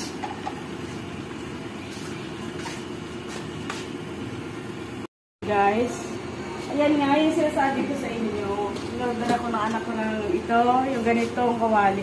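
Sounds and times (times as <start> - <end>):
stove burner hum: 0.0 - 12.0.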